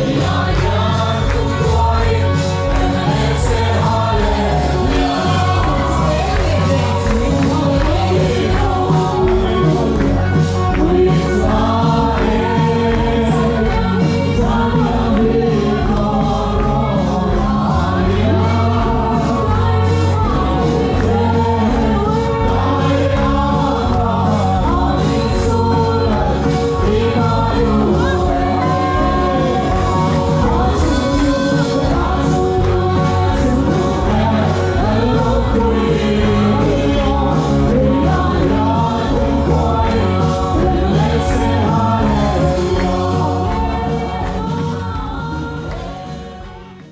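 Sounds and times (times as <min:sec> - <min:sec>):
band accompaniment with bass beat: 0:00.0 - 0:46.9
group singing gospel song: 0:00.0 - 0:46.9.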